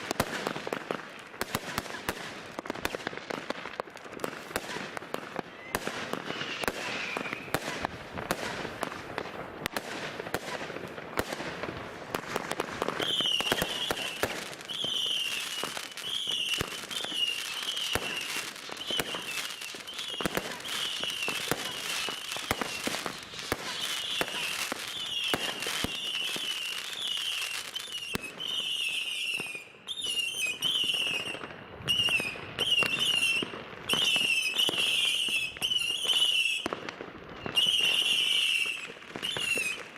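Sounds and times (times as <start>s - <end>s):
fireworks bangs and crackles: 0.0s - 39.9s
whistling fireworks: 0.0s - 39.9s.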